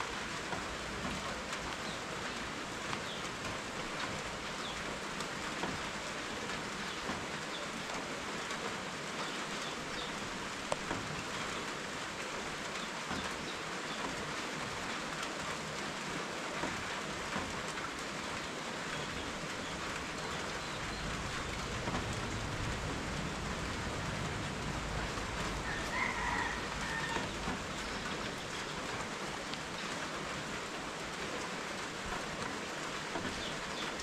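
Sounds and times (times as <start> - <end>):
rain falling: 0.0 - 34.0
raindrops tapping: 0.0 - 34.0.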